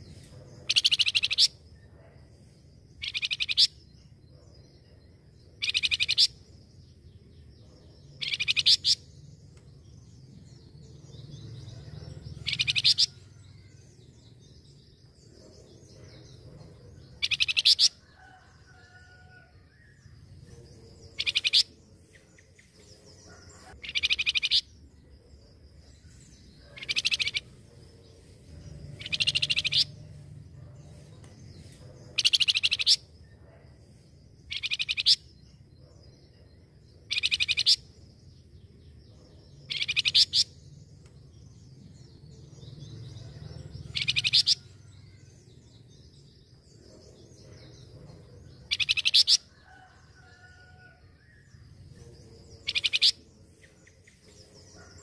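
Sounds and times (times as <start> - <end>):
faint high bird chirping: 0.0 - 55.0.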